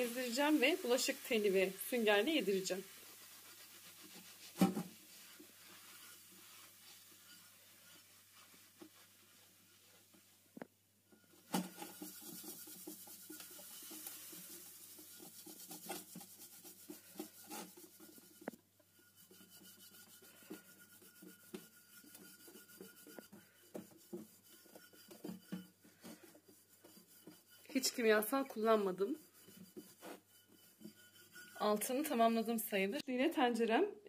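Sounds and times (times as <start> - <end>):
steel wool scrubbing a pot: 0.0 - 33.0.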